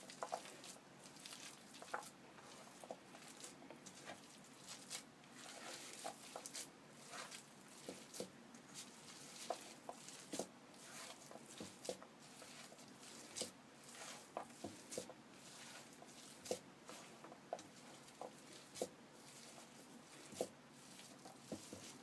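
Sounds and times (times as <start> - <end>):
soft squishes of mashed potato: 0.0 - 22.0.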